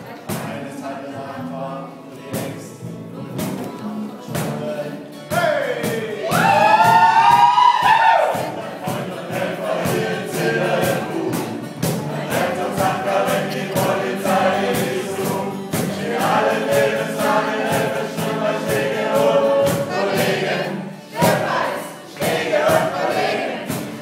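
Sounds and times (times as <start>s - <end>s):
several voices singing: 0.0s - 24.0s
backing track with steady beat: 2.2s - 24.0s.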